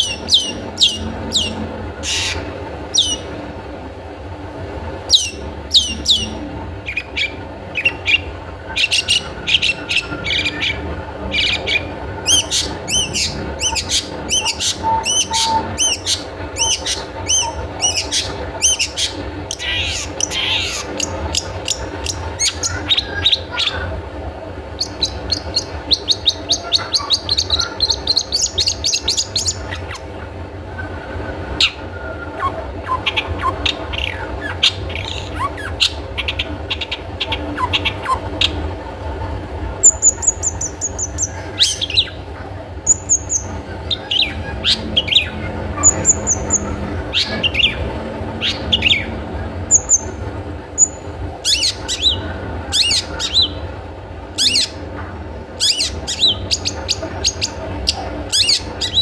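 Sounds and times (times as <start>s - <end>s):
bird singing chattering song: 0.0s - 3.4s, 5.1s - 24.0s, 24.7s - 30.2s, 31.6s - 38.7s, 39.8s - 53.8s, 54.4s - 54.9s, 55.6s - 59.0s
steady low hum: 0.0s - 59.0s.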